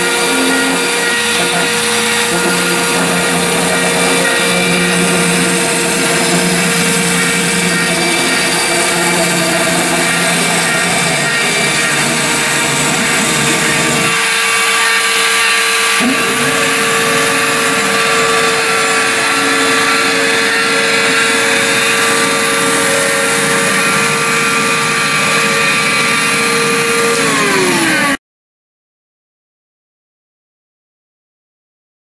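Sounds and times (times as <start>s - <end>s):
spindle motor whining: 0.0s - 28.2s.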